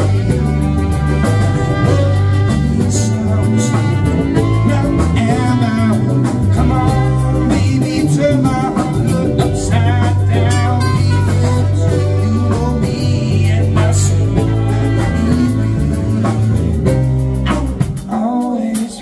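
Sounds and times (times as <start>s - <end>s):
trumpet: 0.0s - 18.8s
bass: 0.0s - 19.0s
drums: 0.0s - 19.0s
person singing: 0.0s - 19.0s
saxophone: 0.0s - 19.0s.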